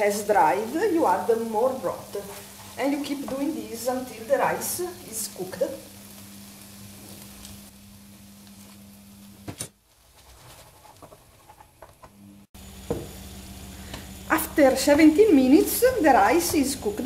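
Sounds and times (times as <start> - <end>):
rice sizzling in a pan: 0.0 - 17.0.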